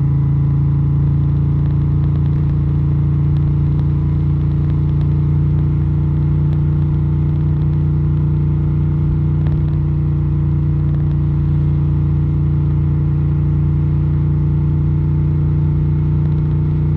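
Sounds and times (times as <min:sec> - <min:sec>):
motorcycle engine running steadily: 0:00.0 - 0:16.9.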